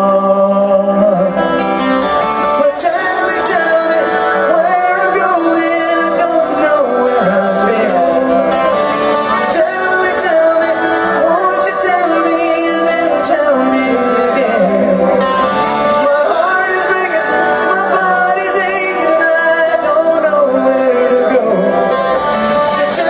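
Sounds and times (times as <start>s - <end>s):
man singing: 0.0s - 23.0s
strummed acoustic guitar: 0.0s - 23.0s.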